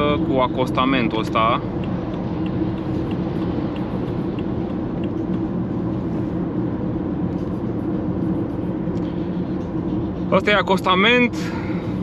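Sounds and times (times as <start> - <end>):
diesel engine running: 0.0 - 12.0
in-cabin tyre and road rumble: 0.0 - 12.0.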